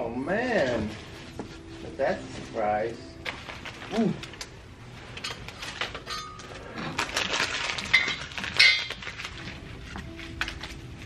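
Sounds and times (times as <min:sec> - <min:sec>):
gift wrapping crinkling: 0:00.4 - 0:11.0.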